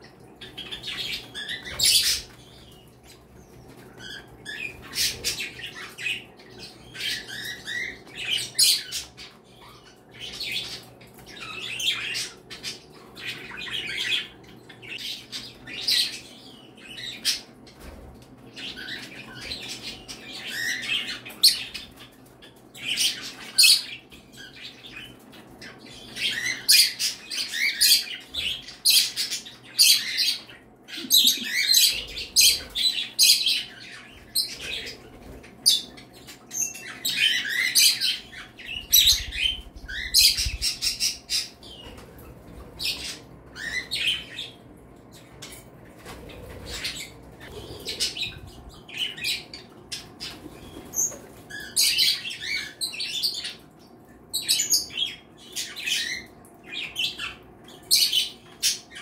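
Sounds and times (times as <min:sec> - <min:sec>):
parrots chirping and chattering: 0:00.0 - 0:59.0.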